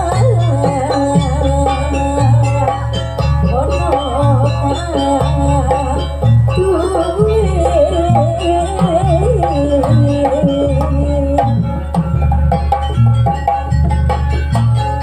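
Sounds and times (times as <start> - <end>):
hand drums playing rhythm: 0.0 - 15.0
wavering melodic line: 0.0 - 15.0.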